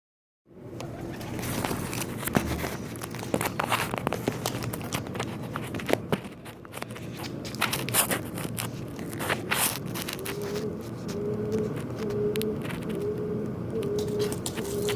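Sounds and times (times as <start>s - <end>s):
birds scuffling at a window: 0.8s - 13.1s, 13.8s - 14.9s.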